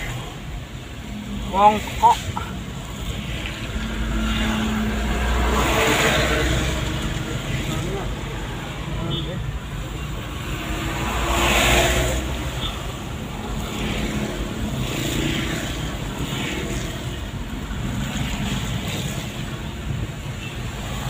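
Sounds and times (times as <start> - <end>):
tyres hissing on wet road: 0.0 - 9.0, 10.4 - 21.0.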